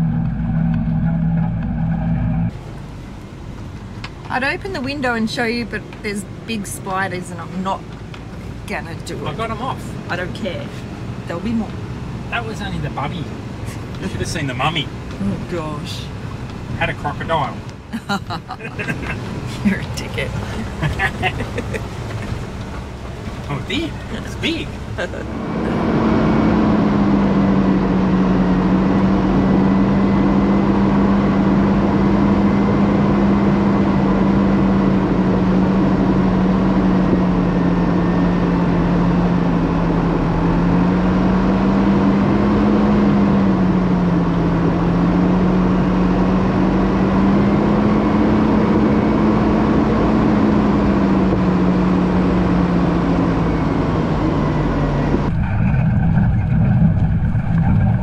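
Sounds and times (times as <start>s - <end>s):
diesel truck engine droning: 0.0s - 58.0s.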